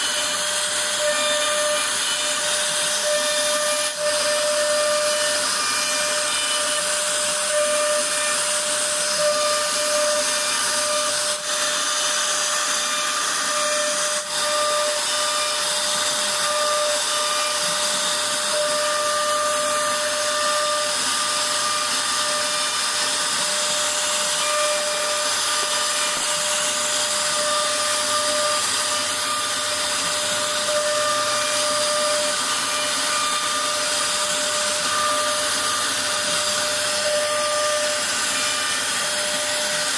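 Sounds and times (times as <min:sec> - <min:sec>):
hiss of wood cutting: 0:00.0 - 0:39.9
wood router spindle whine: 0:00.0 - 0:39.9.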